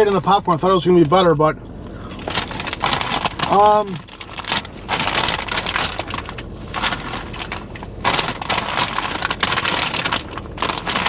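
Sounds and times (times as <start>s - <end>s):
chewing crunchy popcorn: 1.8s - 11.0s.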